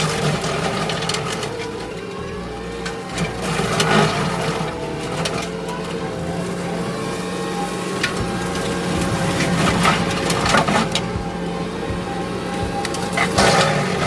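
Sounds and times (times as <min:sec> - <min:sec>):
brush cutter whining: 0:00.0 - 0:14.0
diesel engine running under load: 0:00.0 - 0:14.0.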